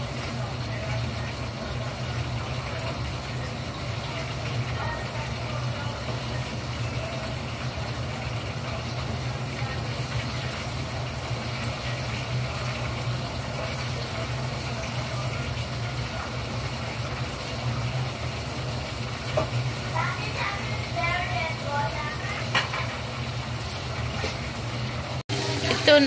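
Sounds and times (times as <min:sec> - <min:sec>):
range hood fan humming: 0:00.0 - 0:26.0.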